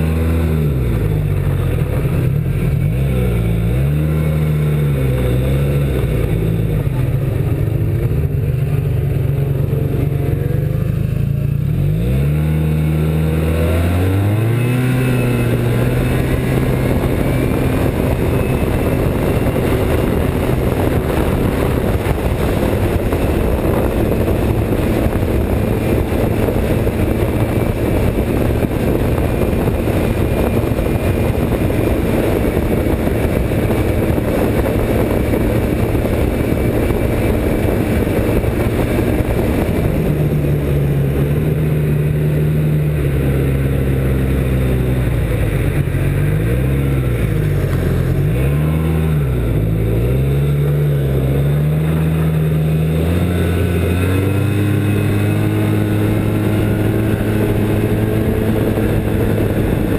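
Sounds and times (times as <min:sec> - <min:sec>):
rush of wind: 0:00.0 - 0:59.9
snowmobile engine droning: 0:00.0 - 0:59.9
snowmobile track noise: 0:00.0 - 0:59.9.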